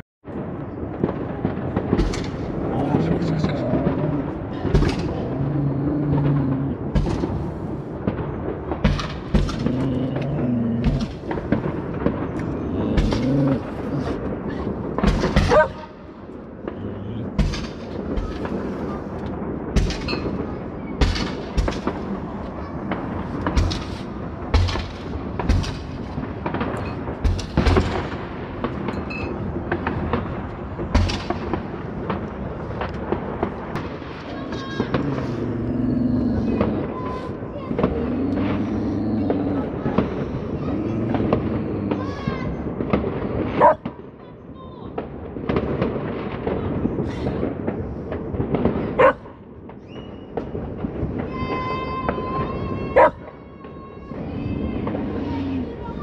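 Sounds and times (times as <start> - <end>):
fireworks bangs and pops: 0.2 - 56.0.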